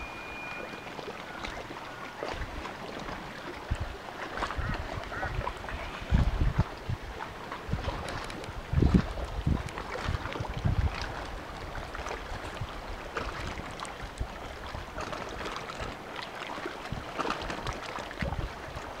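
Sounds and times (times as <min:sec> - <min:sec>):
small waves lapping against a jetty: 0:00.0 - 0:19.0
wind buffeting the microphone: 0:02.3 - 0:19.0.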